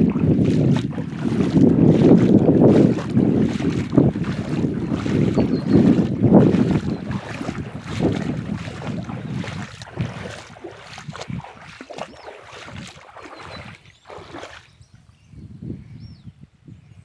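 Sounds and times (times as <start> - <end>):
river water splashing: 0.0 - 14.8
wind buffeting microphone: 0.0 - 17.0.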